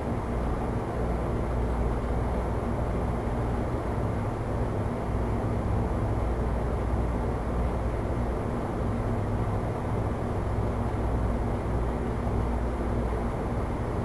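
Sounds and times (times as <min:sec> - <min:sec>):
faint hum: 0:00.0 - 0:14.0
low rumble and hiss: 0:00.0 - 0:14.0.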